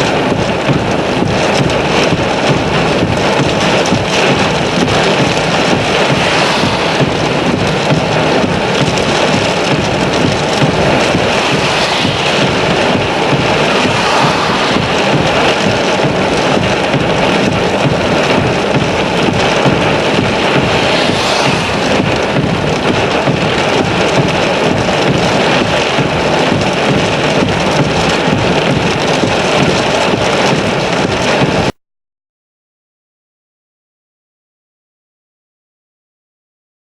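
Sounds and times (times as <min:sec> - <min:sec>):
heavy rain pouring: 0:00.0 - 0:31.8.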